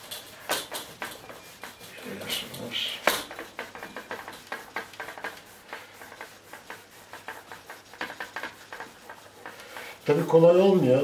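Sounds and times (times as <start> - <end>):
easel clicking and creaking: 0.0 - 10.2
cloth rubbing on paper: 0.0 - 11.0.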